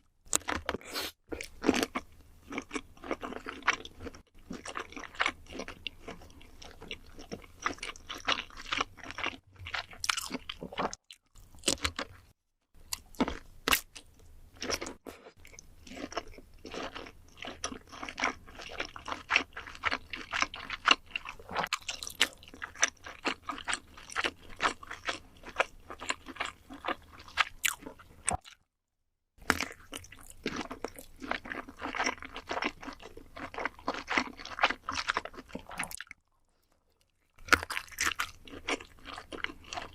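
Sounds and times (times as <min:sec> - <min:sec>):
person chewing crunchy food: 0:00.2 - 0:28.6, 0:29.4 - 0:39.9.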